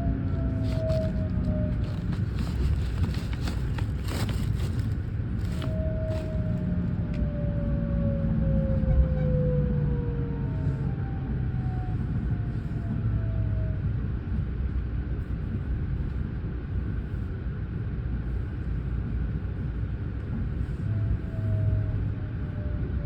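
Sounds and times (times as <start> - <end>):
faint train whine: 0.0 - 23.0
train rumble: 0.0 - 23.0.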